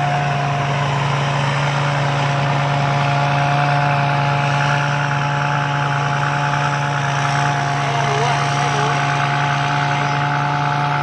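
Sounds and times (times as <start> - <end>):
combine harvester engine drone: 0.0 - 11.0
high-pitched engine whine: 0.0 - 11.0.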